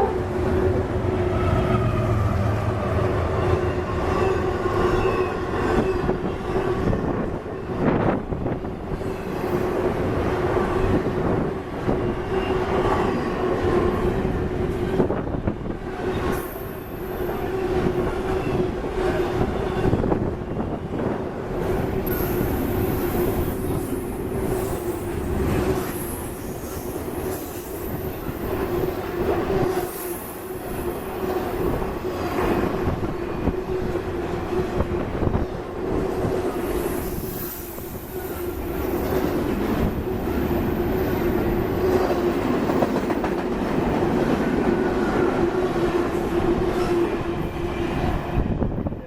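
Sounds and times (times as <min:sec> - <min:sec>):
train wheels rumbling and clattering: 0:00.0 - 0:49.0.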